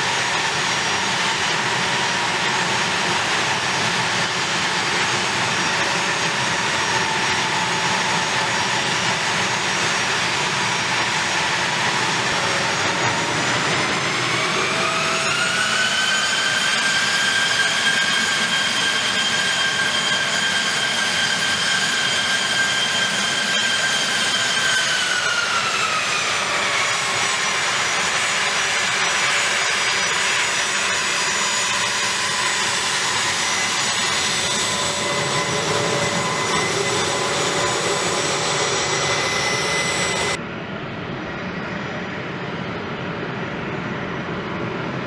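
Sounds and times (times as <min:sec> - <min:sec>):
jet engine whine: 0:00.0 - 0:45.0
jet roar: 0:00.0 - 0:45.0.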